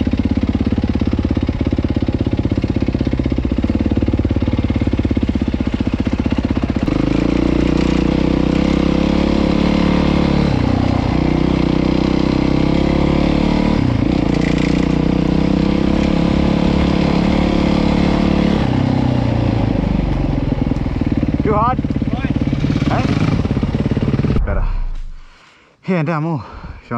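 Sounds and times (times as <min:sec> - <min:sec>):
dirt bike engine revving: 0:00.0 - 0:25.2.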